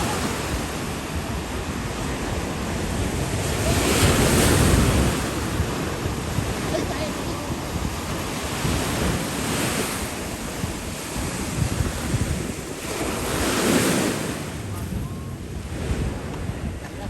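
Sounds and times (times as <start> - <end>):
surf rushing: 0.0 - 17.0
wind buffeting microphone: 0.0 - 17.0.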